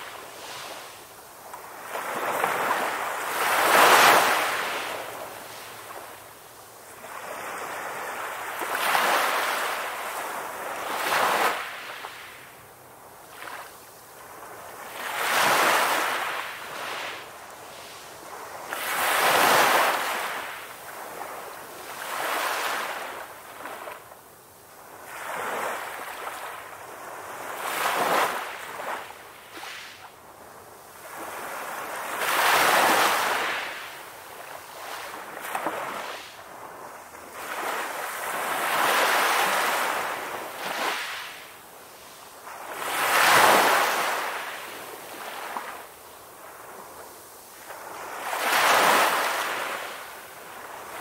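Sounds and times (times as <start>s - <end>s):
ocean waves breaking on shore: 0.0s - 24.1s, 30.9s - 51.0s.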